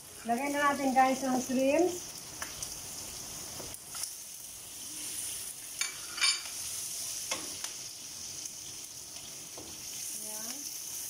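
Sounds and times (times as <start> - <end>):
shrimp and pork sizzling in a wok: 0.0 - 11.0.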